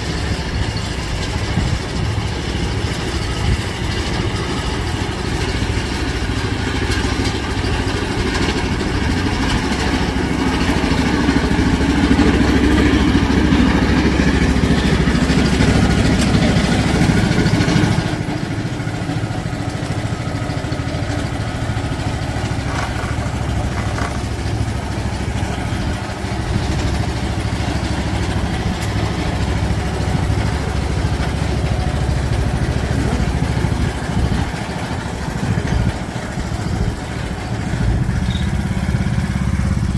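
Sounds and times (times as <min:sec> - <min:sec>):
riding lawn mower engine: 0:00.0 - 0:39.9.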